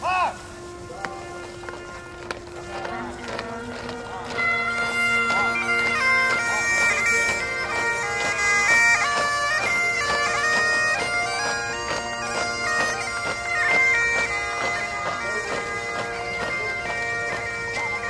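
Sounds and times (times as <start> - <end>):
bagpipes playing a march: 0.0 - 18.0.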